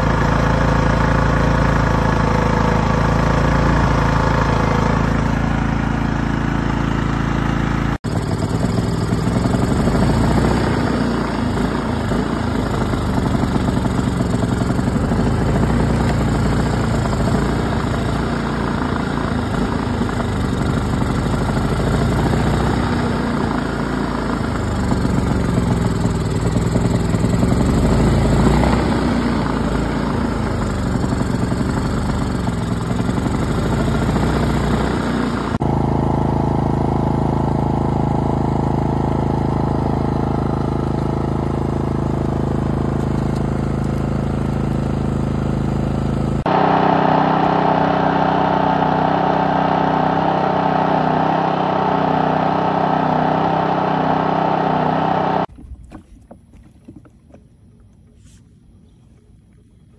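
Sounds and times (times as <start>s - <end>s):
generator engine running: 0.0s - 55.8s.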